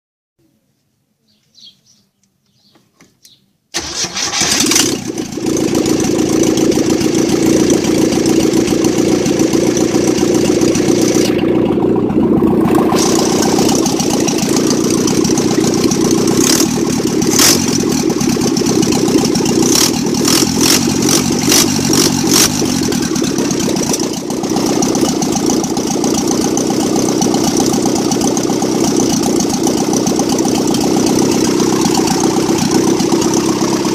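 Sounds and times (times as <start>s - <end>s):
car engine starting and running: 3.7s - 33.9s.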